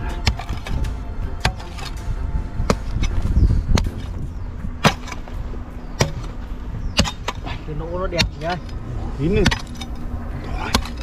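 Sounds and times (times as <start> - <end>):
mattock striking stony earth: 0.0 - 8.7, 9.3 - 11.0.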